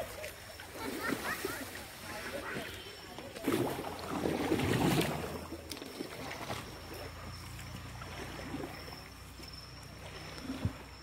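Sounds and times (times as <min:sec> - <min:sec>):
paddle splashing: 0:00.0 - 0:11.0.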